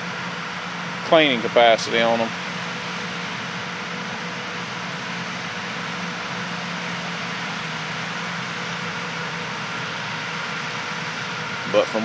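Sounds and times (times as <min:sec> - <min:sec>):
tractor and combine droning: 0:00.0 - 0:12.0.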